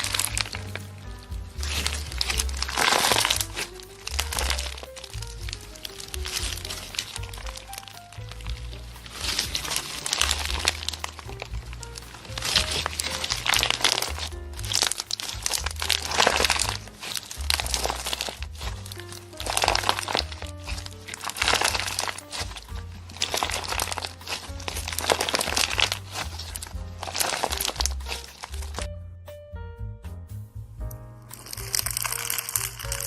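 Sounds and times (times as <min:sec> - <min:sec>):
slime crinkling and crunching: 0:00.0 - 0:28.9, 0:31.3 - 0:33.0
relaxed jazz music: 0:00.0 - 0:33.0.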